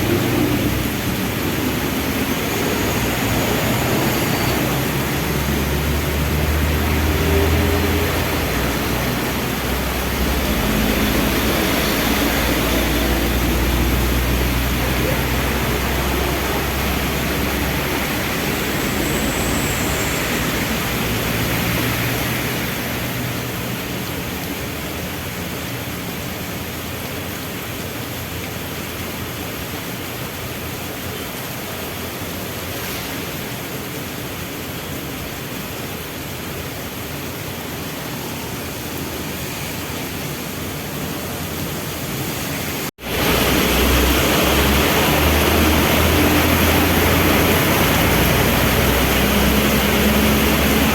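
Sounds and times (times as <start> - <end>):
heavy rain falling: 0.0 - 50.9
vehicle engines running low: 0.0 - 50.9.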